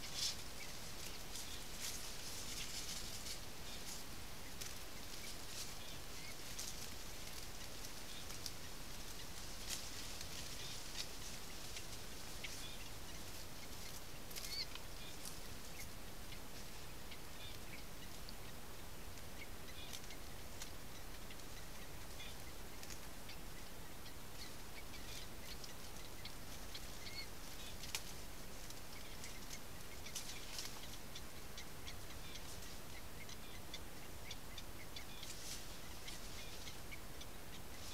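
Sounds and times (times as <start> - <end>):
bird chicks begging chirps: 0.0 - 37.9.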